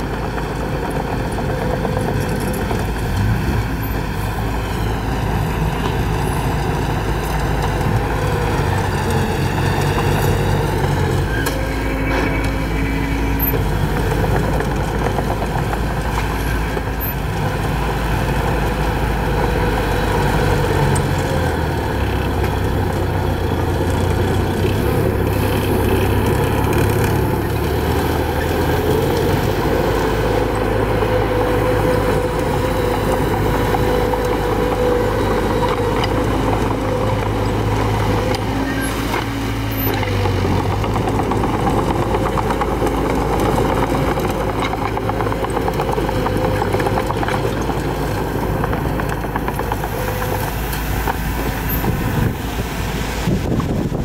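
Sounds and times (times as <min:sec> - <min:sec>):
diesel engine running: 0:00.0 - 0:54.0
dozer pushing dirt and rock: 0:00.0 - 0:54.0.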